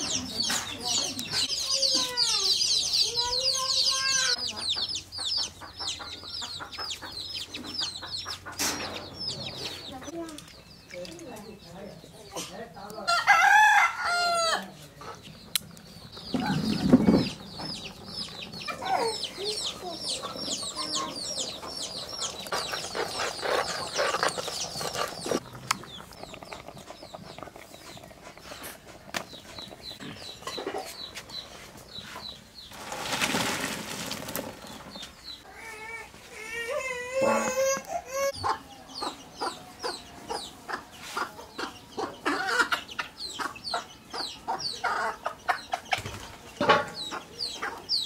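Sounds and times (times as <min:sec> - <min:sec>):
chicks cheeping: 0:00.0 - 0:12.0, 0:15.0 - 0:28.7, 0:29.3 - 0:32.8, 0:37.6 - 0:48.0.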